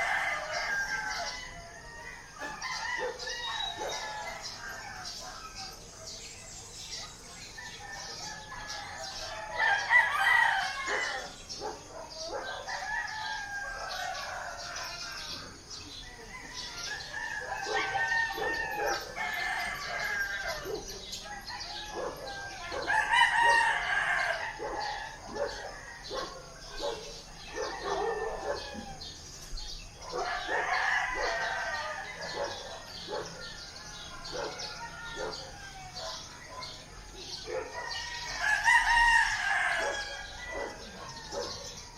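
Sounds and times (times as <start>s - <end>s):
roosters crowing: 0.0s - 41.9s.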